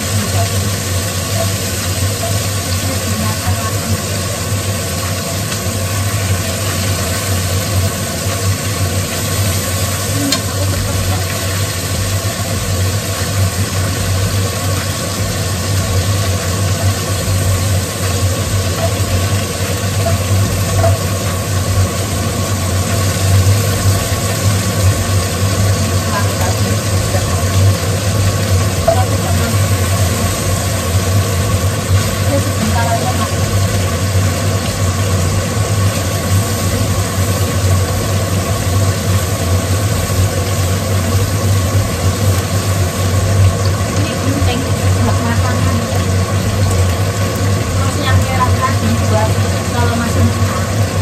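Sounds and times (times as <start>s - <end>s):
low motor hum: 0.0s - 51.0s.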